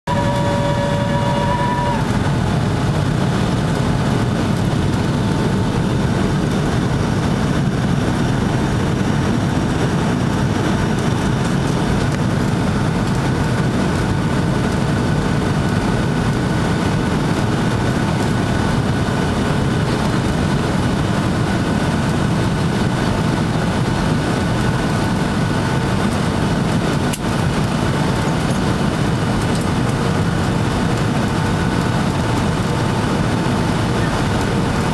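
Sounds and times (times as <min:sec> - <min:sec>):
airplane cabin engine drone: 0:00.0 - 0:34.9
faint engine tones: 0:00.0 - 0:34.9.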